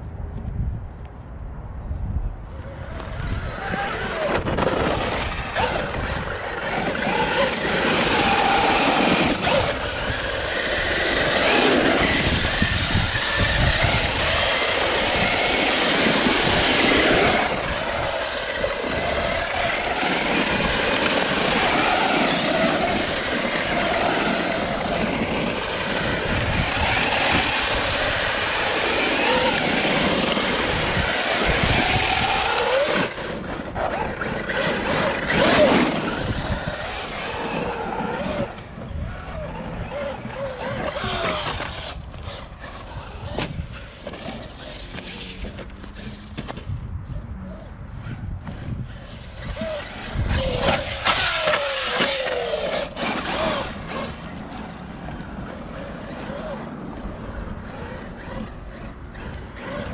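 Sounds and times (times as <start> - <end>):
steady rush of noise: 0.0 - 59.9
electric motor whine: 2.6 - 46.6, 48.4 - 59.9.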